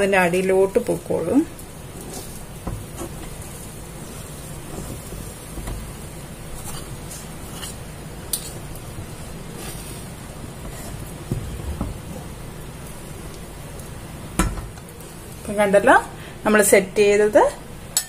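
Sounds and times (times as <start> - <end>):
egg sizzling in a pan: 0.0 - 16.4.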